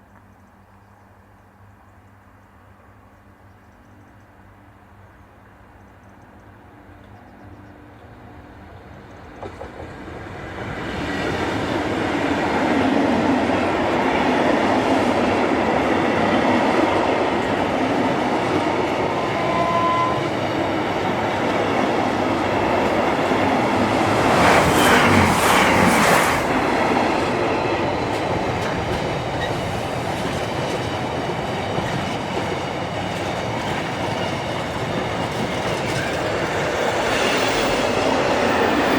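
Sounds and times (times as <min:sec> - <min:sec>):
diesel locomotive engines droning: 0:00.1 - 0:38.9.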